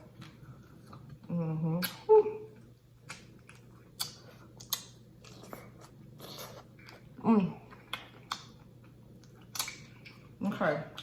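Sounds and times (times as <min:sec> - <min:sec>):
chewing and lip smacks: 0:00.0 - 0:11.0.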